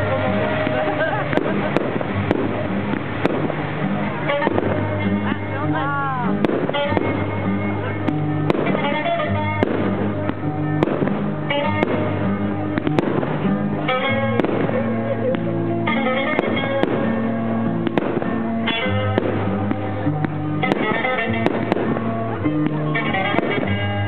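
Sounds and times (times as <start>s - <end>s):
fireworks bangs: 0.0s - 24.0s
music: 0.0s - 24.0s.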